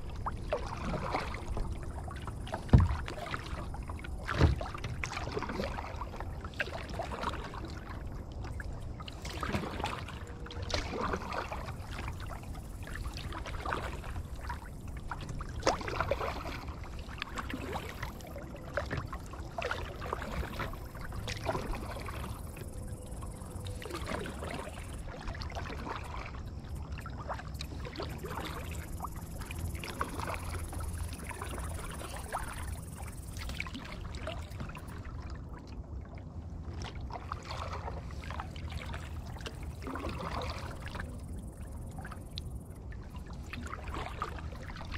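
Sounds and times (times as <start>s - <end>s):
kayak paddle splashing: 0.0s - 44.9s.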